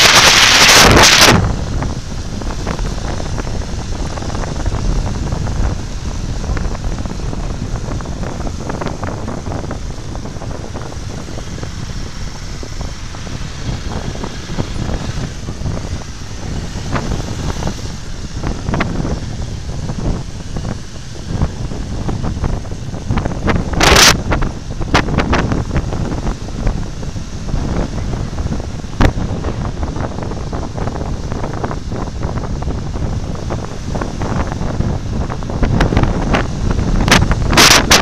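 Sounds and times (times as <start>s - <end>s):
motorcycle engines running: 0.0s - 38.0s
wind rumbling on microphone: 0.0s - 38.0s.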